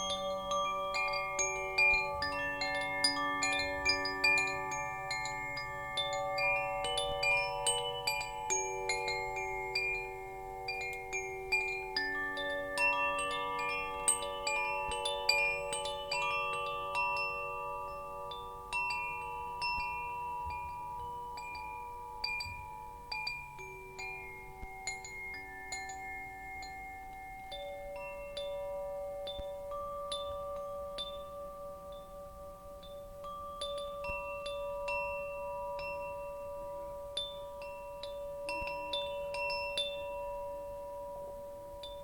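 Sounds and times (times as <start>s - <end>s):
metal wind chimes tinkling: 0.0s - 42.0s.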